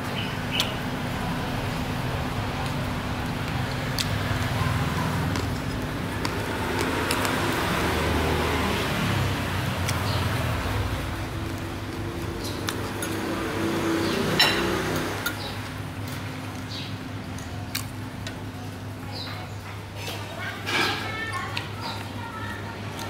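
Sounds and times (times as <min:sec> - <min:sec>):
vehicles passing: 0:00.0 - 0:23.0.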